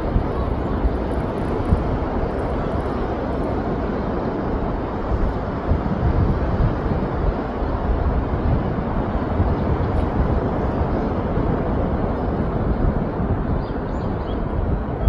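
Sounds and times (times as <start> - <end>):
beach wind: 0.0 - 15.0.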